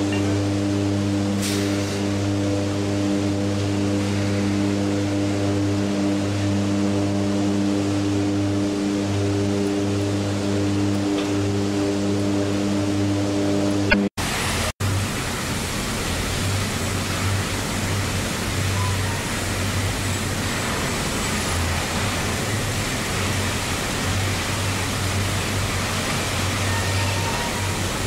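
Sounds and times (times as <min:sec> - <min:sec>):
low wavering hum: 0:00.0 - 0:26.6
furnace rushing roar: 0:00.0 - 0:28.0.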